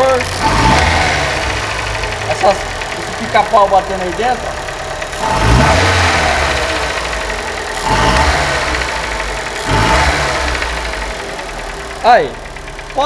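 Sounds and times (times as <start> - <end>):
car engine revving: 0.0 - 13.0
engine knocking: 0.0 - 13.0.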